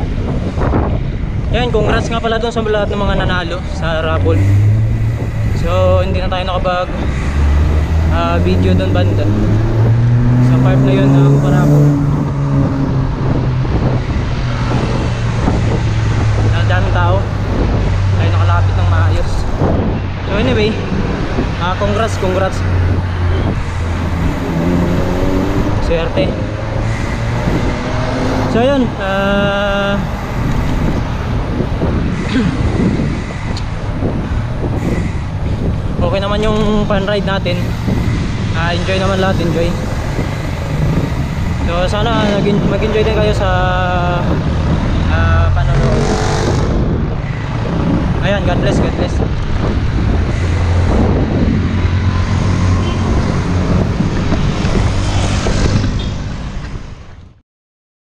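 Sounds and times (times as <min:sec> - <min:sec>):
street traffic: 0:00.0 - 0:57.4
wind rushing over microphone: 0:00.0 - 0:57.4.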